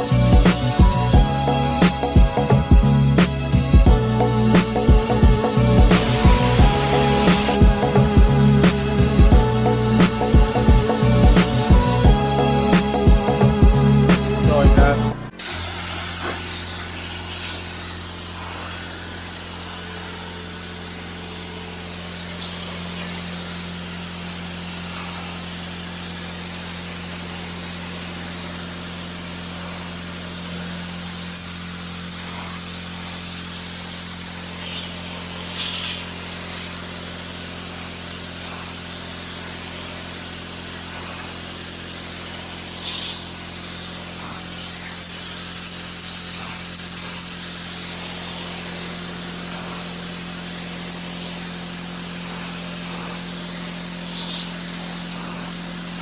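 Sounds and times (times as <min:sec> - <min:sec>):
pressure washer humming: 0:00.0 - 0:56.0
water jet hissing against wall: 0:05.9 - 0:11.9, 0:14.3 - 0:56.0.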